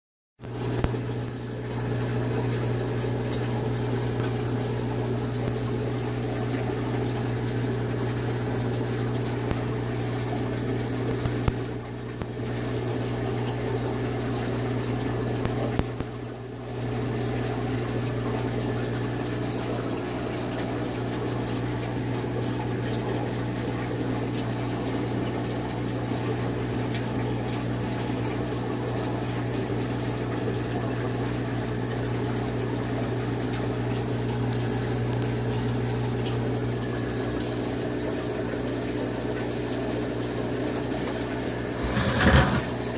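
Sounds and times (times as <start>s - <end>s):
aquarium pump humming: 0.4s - 42.9s
moving water: 0.4s - 42.9s.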